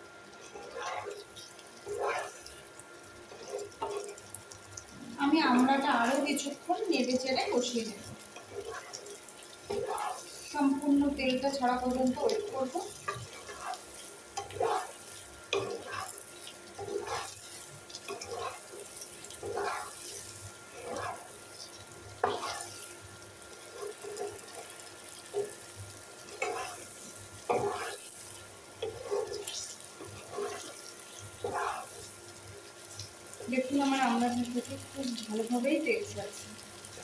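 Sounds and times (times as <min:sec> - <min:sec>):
soft sizzle: 0:00.0 - 0:37.0
spatula scraping in a wok: 0:00.4 - 0:04.3, 0:05.5 - 0:37.0.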